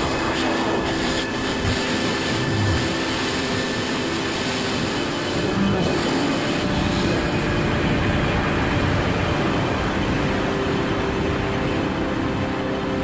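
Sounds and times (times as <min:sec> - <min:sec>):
rushing wind of freefall: 0:00.0 - 0:13.0.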